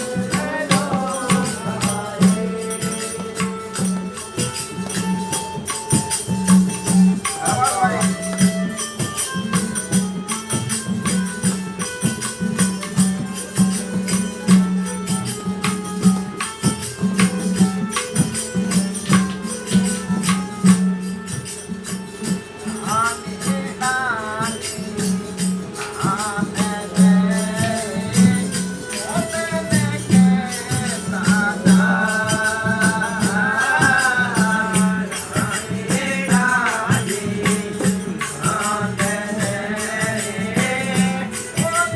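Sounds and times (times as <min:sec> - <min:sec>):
steady percussion beat: 0:00.0 - 0:41.9.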